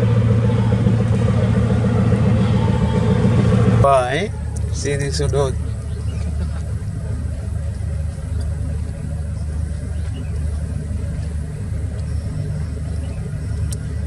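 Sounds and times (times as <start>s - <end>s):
ship engine low rumble: 0.0s - 14.0s.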